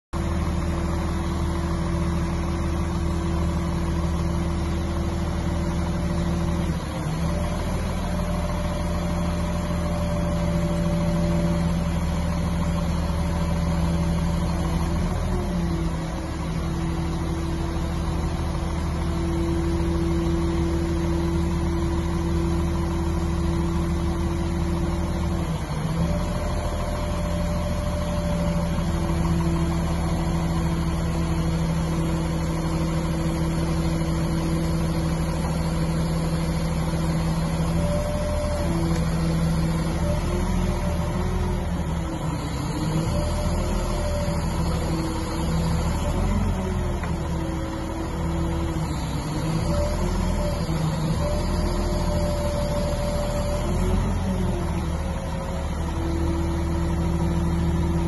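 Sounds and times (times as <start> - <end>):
crane diesel engine running: 0.2 - 58.0.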